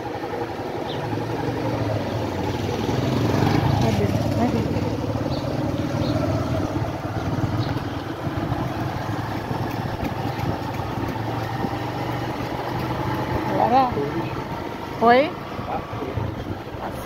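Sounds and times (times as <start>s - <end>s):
vehicle engine pulsing hum: 0.0s - 17.0s.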